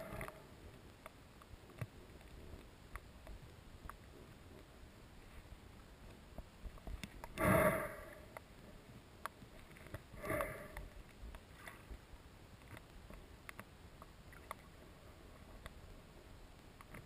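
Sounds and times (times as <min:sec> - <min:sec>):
faint underwater clicks: 0:00.0 - 0:17.0
muffled rush of water: 0:00.0 - 0:17.0.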